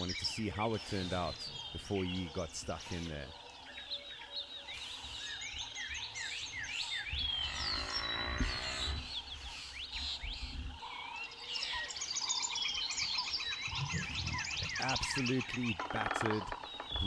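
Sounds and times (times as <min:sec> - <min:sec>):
chirping bird calls: 0:00.0 - 0:17.0.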